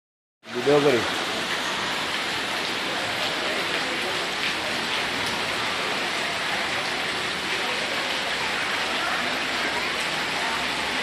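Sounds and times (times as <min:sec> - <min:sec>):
water rushing on flooded street: 0:00.4 - 0:11.0.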